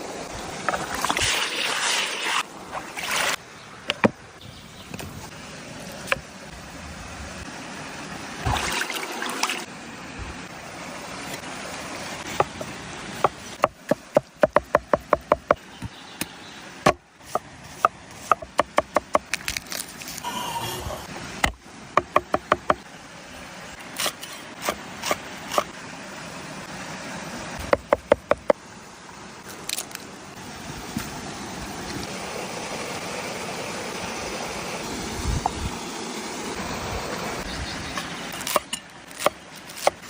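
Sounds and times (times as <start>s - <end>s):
steady outdoor hiss: 0.0s - 40.0s.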